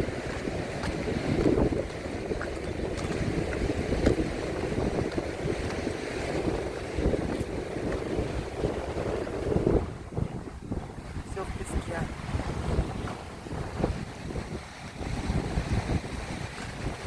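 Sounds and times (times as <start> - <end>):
sea surf: 0.0 - 17.0
strong wind buffeting microphone: 0.0 - 17.0.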